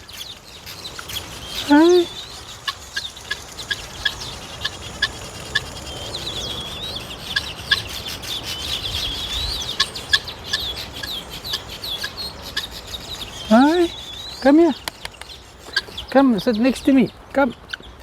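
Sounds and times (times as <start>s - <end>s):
high twittering birdsong: 0.0s - 18.0s.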